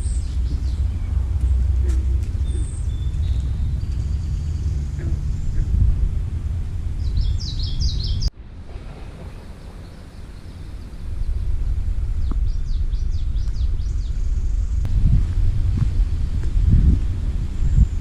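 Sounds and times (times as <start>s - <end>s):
songbird singing: 0.0s - 18.0s
steady low rumble: 0.0s - 18.0s.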